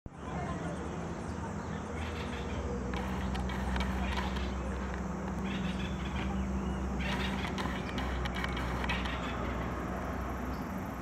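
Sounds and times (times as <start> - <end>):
birds chirping: 0.1 - 11.0
steady low hum: 0.1 - 11.0.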